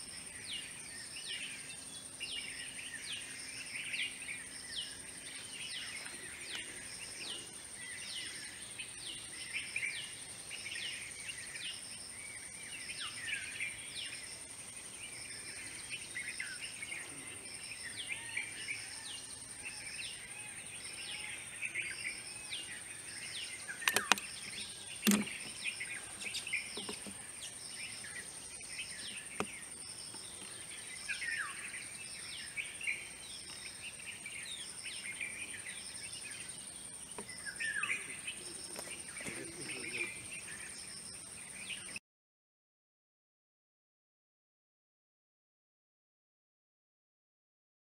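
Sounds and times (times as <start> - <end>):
high insect drone: 0.0 - 42.0
birds chirping and calling: 0.2 - 42.0.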